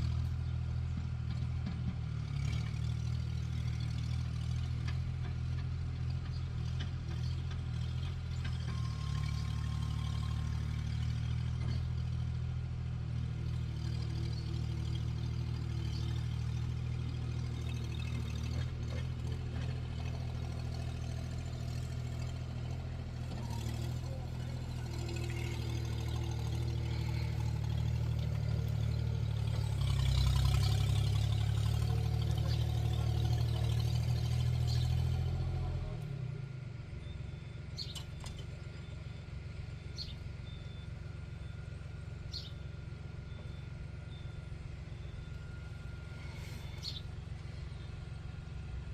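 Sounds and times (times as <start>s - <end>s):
loader engine running: 0.0s - 48.9s.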